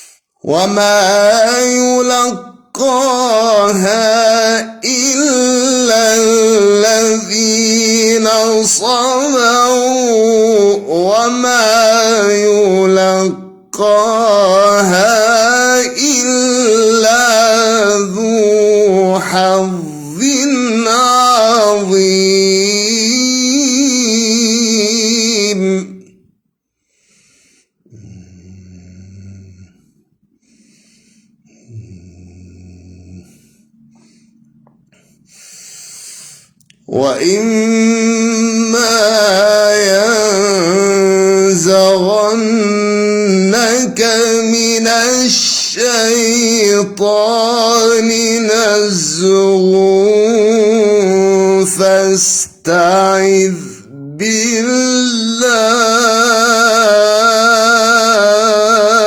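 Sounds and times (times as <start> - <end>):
man reciting melodically: 0.0 - 26.3, 27.2 - 59.0.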